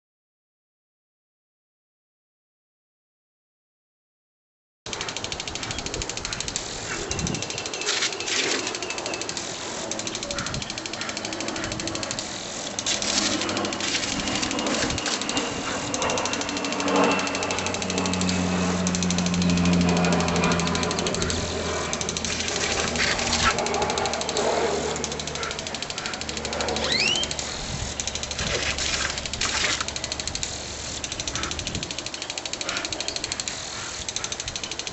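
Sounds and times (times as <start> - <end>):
impact sprinkler ticking: 4.9 - 34.9
low hum: 4.9 - 34.9.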